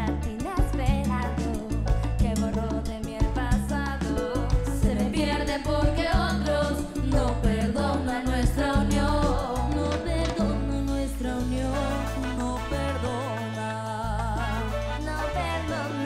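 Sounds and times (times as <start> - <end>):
live band playing: 0.0 - 16.0
steady bass line: 0.0 - 16.0.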